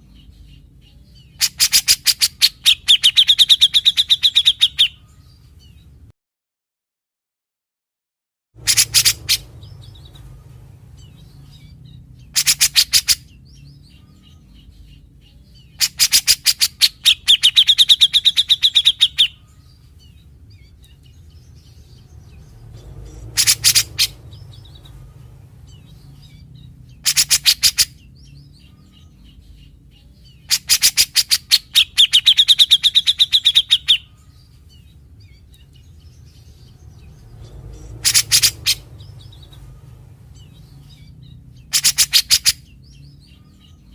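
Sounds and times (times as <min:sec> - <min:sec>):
bird chattering song: 0:00.0 - 0:06.0, 0:08.6 - 0:43.9
steady low hum: 0:08.6 - 0:43.9.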